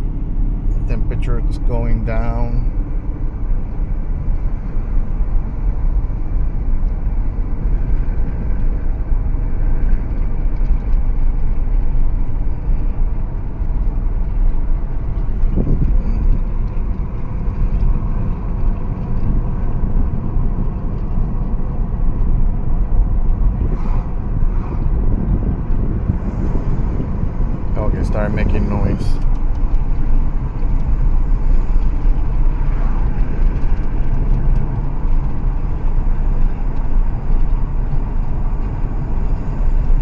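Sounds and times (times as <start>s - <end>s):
car cabin low rumble: 0.0s - 40.0s.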